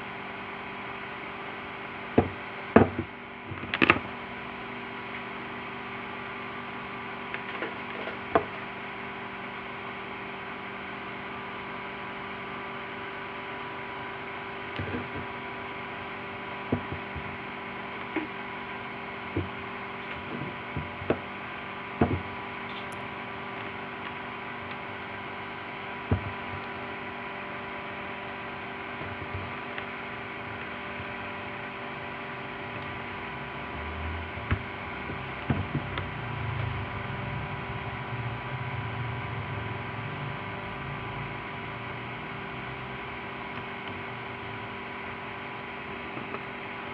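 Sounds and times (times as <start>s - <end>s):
electrical hum with hiss: 0.0s - 46.9s.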